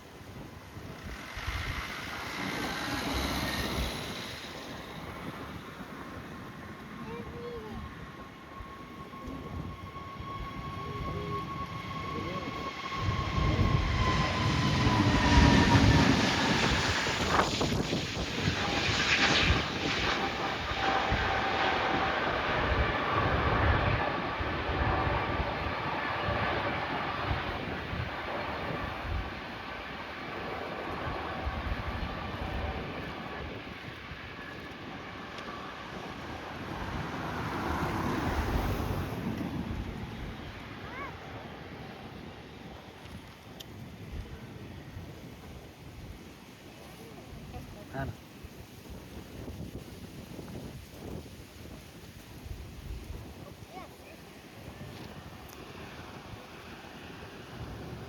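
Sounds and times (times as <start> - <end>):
faint engine whine: 0.0 - 48.4
jet airliner passing: 0.0 - 58.0
wind rumbling on microphone: 0.0 - 58.0.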